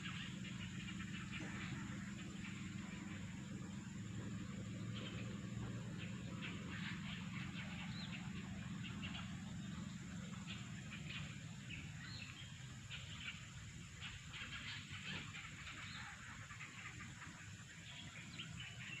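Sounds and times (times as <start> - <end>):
birds chirping faintly: 0.0 - 19.0
low steady hum: 0.0 - 19.0.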